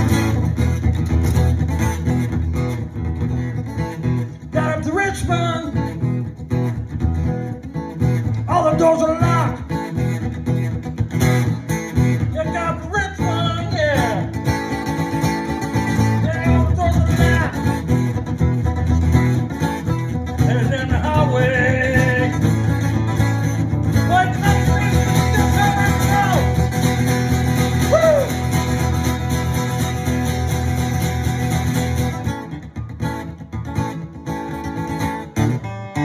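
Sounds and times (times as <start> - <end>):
lead guitar with bent notes: 0.0 - 36.0
strummed guitar accompaniment: 0.0 - 36.0.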